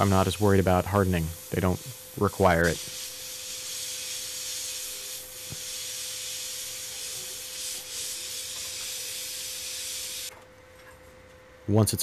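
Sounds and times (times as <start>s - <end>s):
gas torch hissing: 0.0s - 10.3s.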